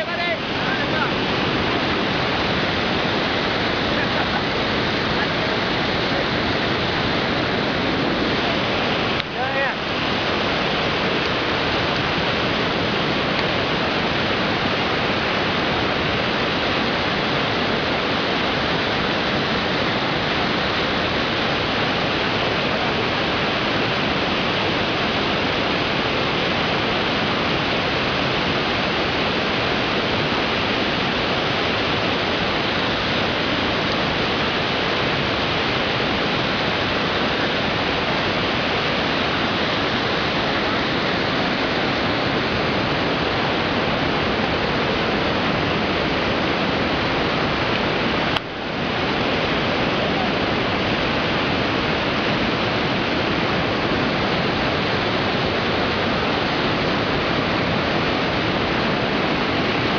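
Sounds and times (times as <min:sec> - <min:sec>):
fast-flowing water rushing: 0:00.0 - 0:59.9.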